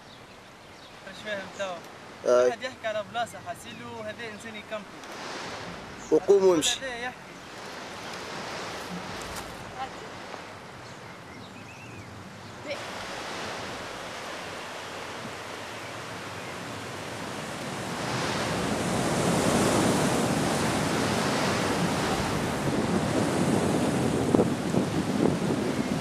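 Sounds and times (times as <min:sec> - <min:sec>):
wind: 0:00.0 - 0:26.0
sea surf: 0:00.9 - 0:26.0.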